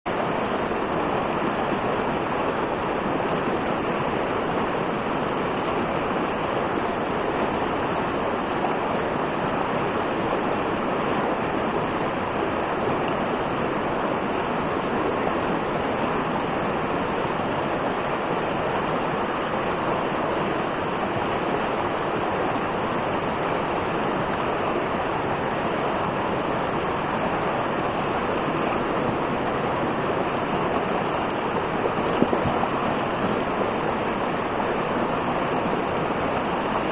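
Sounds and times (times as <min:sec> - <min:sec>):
waterfall roar: 0:00.1 - 0:36.9.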